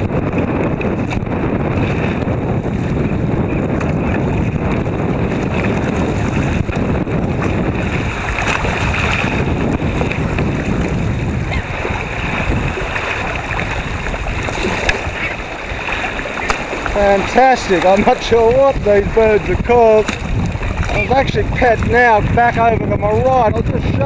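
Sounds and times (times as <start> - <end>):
sea water washing and splashing: 0.0 - 24.0
wind buffeting microphone: 0.0 - 24.0.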